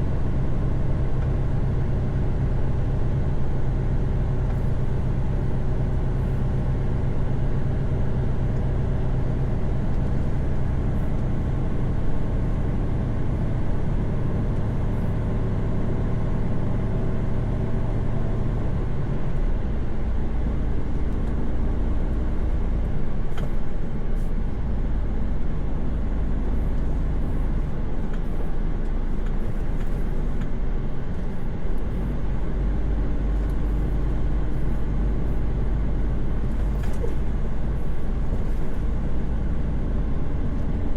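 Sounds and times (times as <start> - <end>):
truck diesel engine hum: 0.0 - 40.9.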